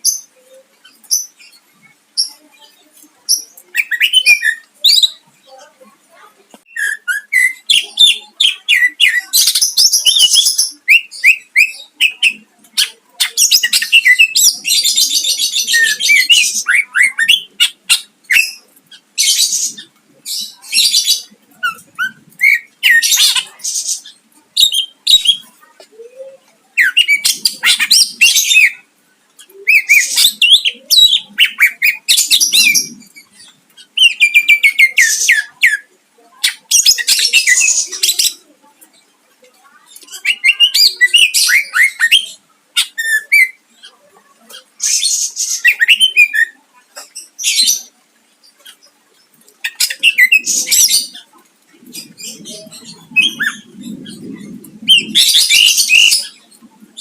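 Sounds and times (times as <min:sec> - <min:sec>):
bird singing with trills: 0:00.0 - 0:05.2, 0:06.6 - 0:35.9, 0:39.9 - 0:47.9, 0:49.6 - 0:57.0.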